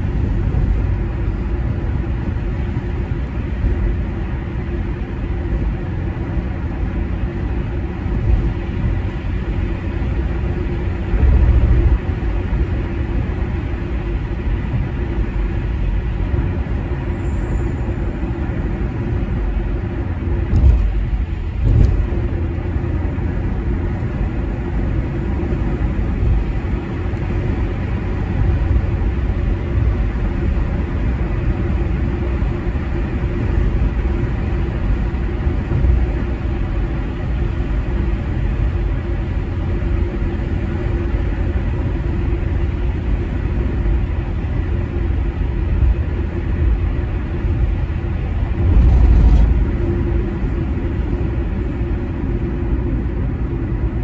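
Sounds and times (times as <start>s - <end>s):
car engine: 0.0s - 54.0s
tyre and road noise: 0.0s - 54.0s.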